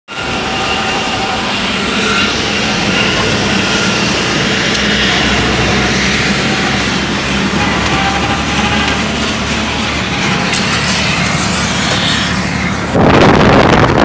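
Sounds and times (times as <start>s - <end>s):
jet engine whine: 0.1s - 14.0s
vehicle engine hum: 0.1s - 14.0s.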